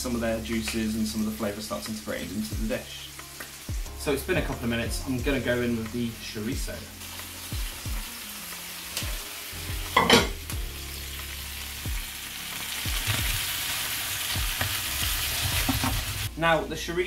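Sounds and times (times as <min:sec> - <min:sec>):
food sizzling in a hot pan: 0:00.0 - 0:16.4.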